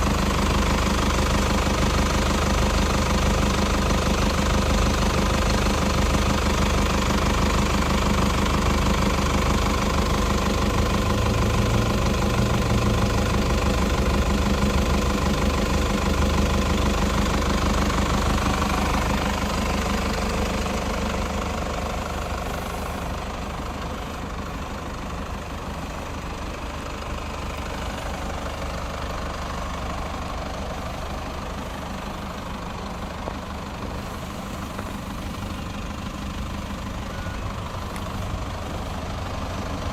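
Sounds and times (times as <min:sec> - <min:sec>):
diesel engine idling with clatter: 0:00.0 - 0:39.9.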